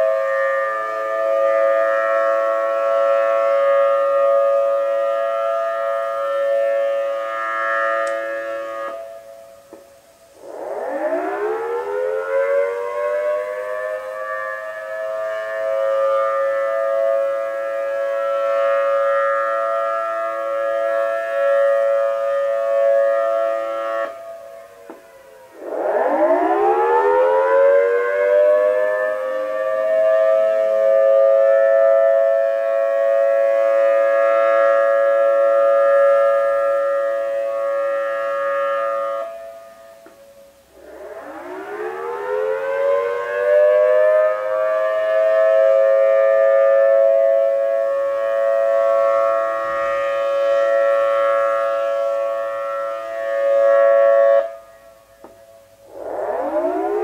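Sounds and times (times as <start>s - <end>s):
warning sirens wailing: 0.0s - 57.0s.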